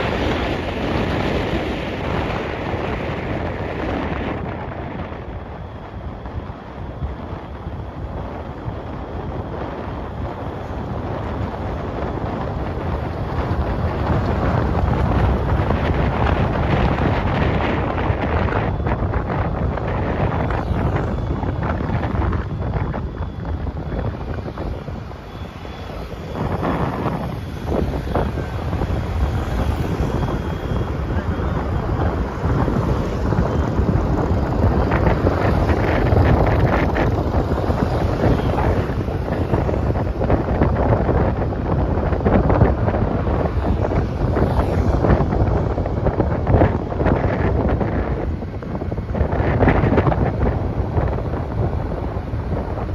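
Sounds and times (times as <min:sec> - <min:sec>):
road noise rushing: 0:00.0 - 0:52.9
wind buffeting microphone: 0:00.0 - 0:52.9.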